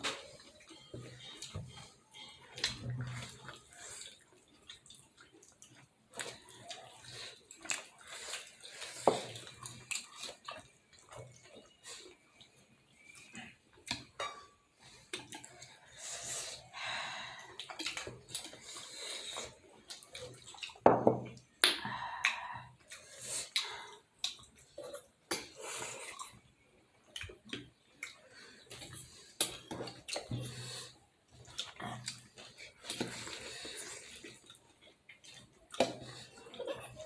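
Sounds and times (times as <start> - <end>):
chewing and slurping: 0.0 - 16.7, 17.5 - 20.8, 22.8 - 37.0.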